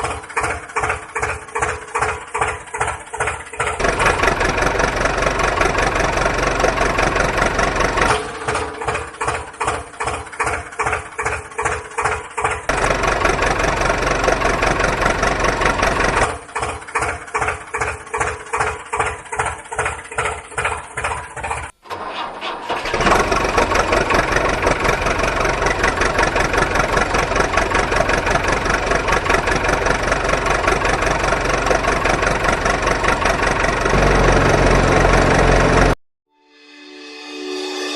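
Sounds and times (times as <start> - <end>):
engine running steadily: 0.0 - 21.7, 22.8 - 36.0
engine cranking: 0.0 - 36.0.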